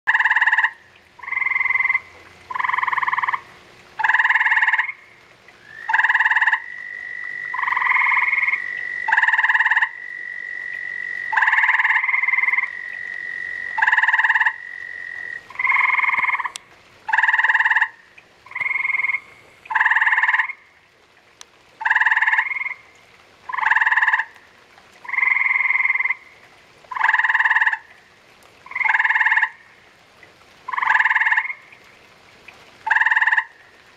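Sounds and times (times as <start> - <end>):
treefrogs trilling: 0.1 - 20.8, 21.8 - 28.0, 28.6 - 29.8, 30.7 - 31.9, 32.8 - 33.8.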